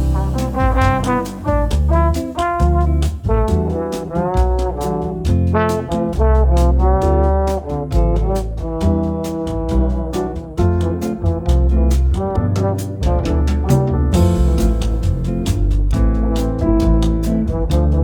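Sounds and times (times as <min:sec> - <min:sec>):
upbeat jazzy tune with brass: 0:00.0 - 0:18.0.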